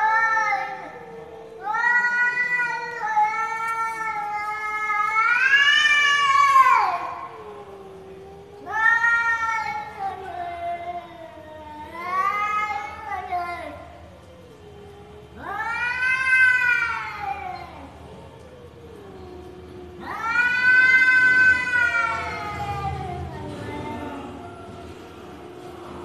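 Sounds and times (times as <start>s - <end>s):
cat low drawn-out moan: 0.0s - 26.0s
cats yowling: 0.0s - 26.0s.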